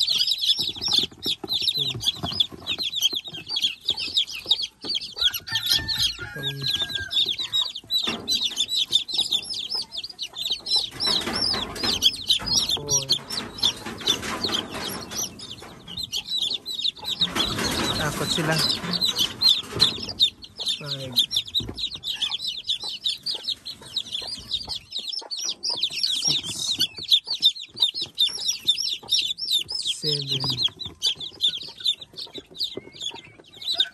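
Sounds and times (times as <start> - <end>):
chicks peeping: 0.0 - 33.9
hen clucking: 0.0 - 33.9.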